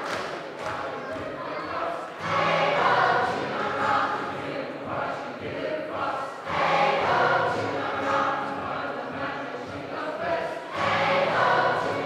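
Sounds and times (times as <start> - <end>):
mixed choir singing a sea shanty: 0.0 - 12.0.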